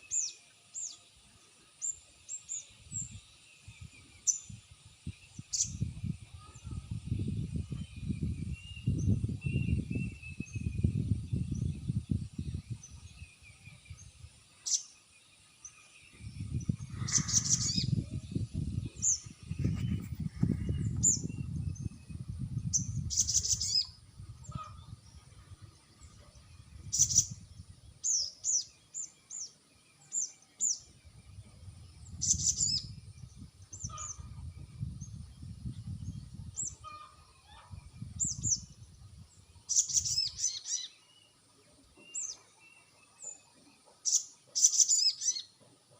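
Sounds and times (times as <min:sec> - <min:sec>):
birds chirping: 0:01.8 - 0:45.6.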